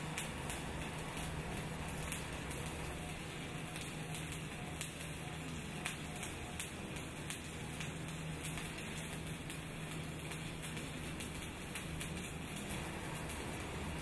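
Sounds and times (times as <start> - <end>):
low steady hum: 0.0 - 14.0
welding arc crackling sizzle: 0.0 - 14.0.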